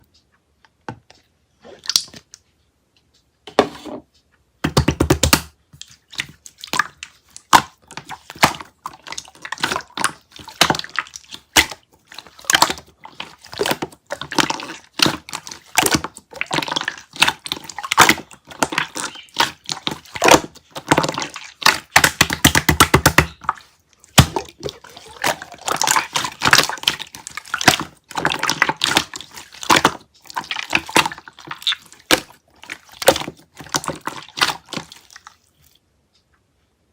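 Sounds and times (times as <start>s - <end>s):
slime squishing by hand: 4.7s - 35.8s.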